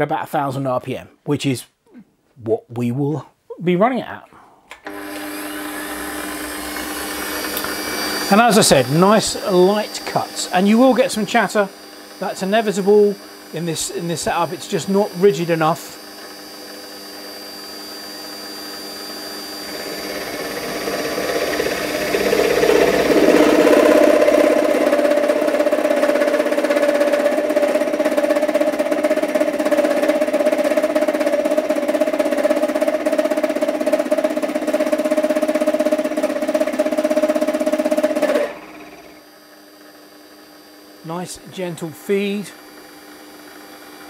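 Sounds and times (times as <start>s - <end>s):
lathe cutting with ringing chatter: 4.9s - 44.0s.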